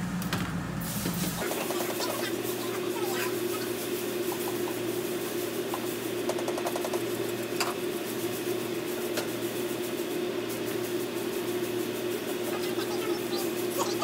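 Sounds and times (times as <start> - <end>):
steady mechanical hum: 0.0 - 14.0
cleaner sizzling on hot griddle: 0.8 - 14.0.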